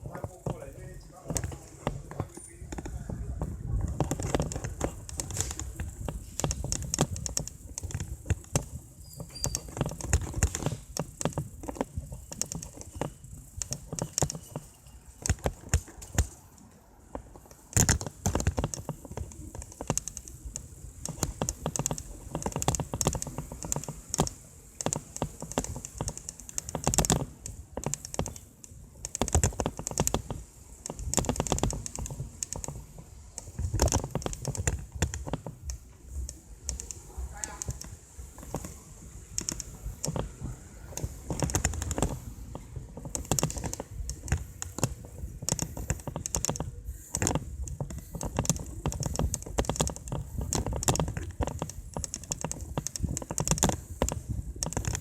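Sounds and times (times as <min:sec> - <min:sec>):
wind rumble on microphone: 0:00.0 - 0:14.4, 0:17.3 - 0:55.0
bicycle clicking and rattling: 0:00.0 - 0:55.0.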